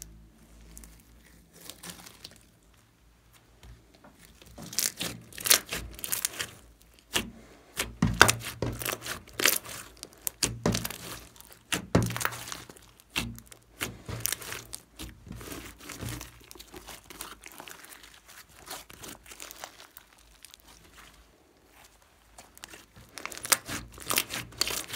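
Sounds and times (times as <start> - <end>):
slime crackling and popping: 0.0 - 2.8, 4.2 - 24.9.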